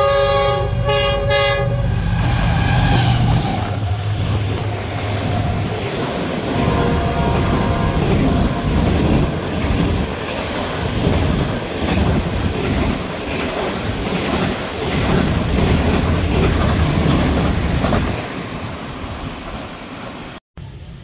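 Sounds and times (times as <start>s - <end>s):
train rushing past: 0.0s - 21.0s.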